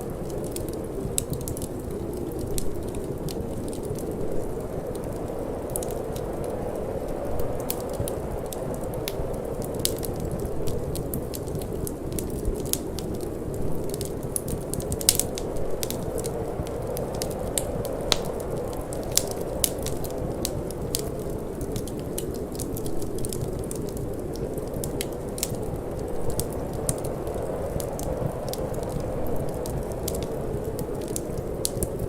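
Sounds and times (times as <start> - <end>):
low rush of wind: 0.0 - 32.0
wood fire crackling and popping: 0.0 - 32.0.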